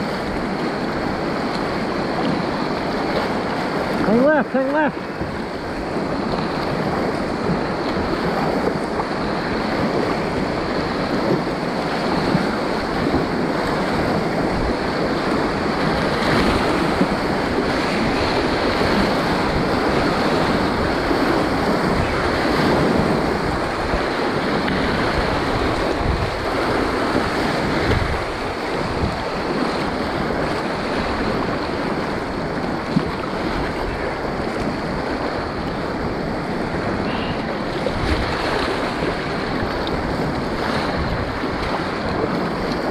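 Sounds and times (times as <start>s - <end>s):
whitewater rapids rushing: 0.0s - 42.9s
wind on microphone: 0.0s - 42.9s.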